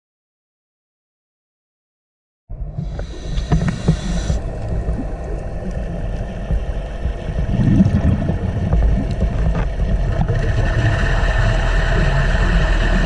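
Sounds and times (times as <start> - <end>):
underwater rumble and hiss: 2.5 - 13.0.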